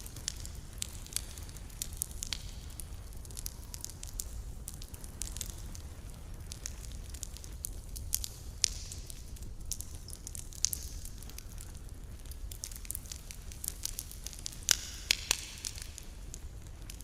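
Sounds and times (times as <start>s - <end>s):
campfire crackling: 0.0s - 17.0s
hissing sizzle: 0.0s - 17.0s.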